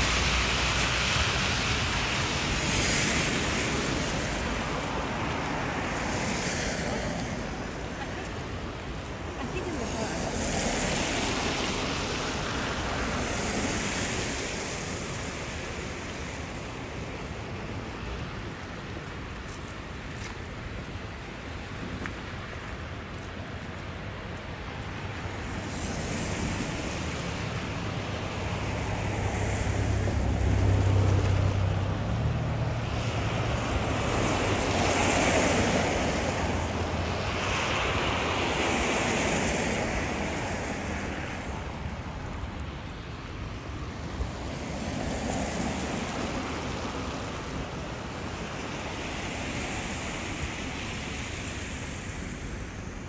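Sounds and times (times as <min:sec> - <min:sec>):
tyre hiss of passing vehicles: 0:00.0 - 0:53.0.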